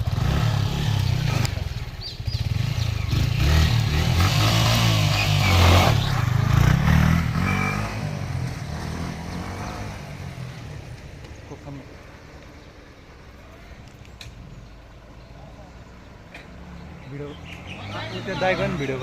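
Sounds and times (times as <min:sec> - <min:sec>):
motorcycle engine drone: 0:00.0 - 0:19.0.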